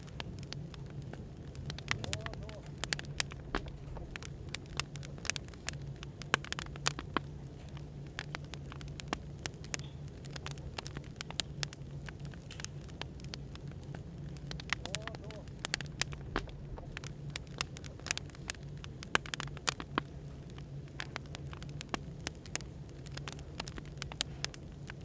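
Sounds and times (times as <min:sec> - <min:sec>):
low hum of white noise: 0:00.0 - 0:25.0
wood fire crackling and popping: 0:00.0 - 0:25.0.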